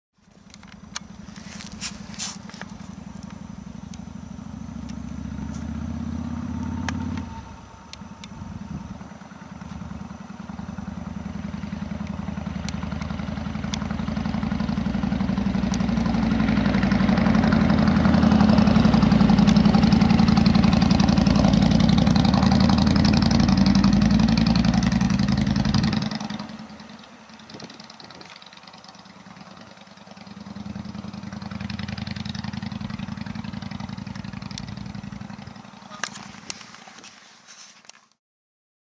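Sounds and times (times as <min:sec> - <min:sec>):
motorcycle passing by: 0:00.4 - 0:36.8.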